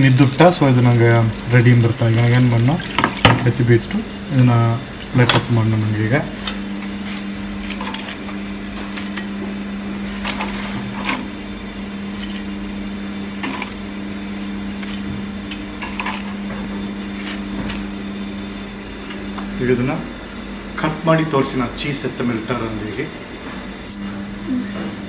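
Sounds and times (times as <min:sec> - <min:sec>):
kitchen equipment hum: 0:00.0 - 0:25.0.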